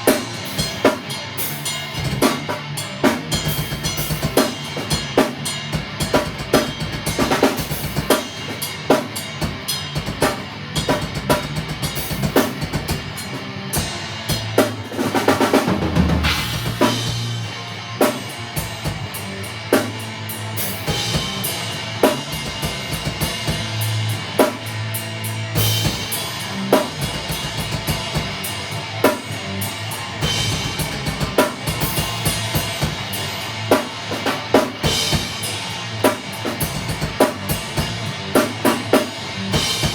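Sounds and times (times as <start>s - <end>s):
drum kit steady beat: 0.0s - 39.9s
guitar playing: 0.0s - 39.9s.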